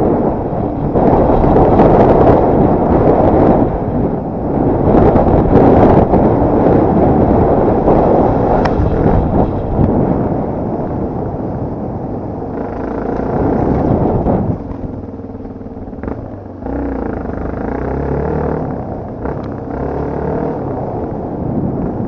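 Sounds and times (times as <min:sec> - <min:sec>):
motorcycle engine revving: 0:00.0 - 0:22.0
wind noise: 0:00.0 - 0:22.0.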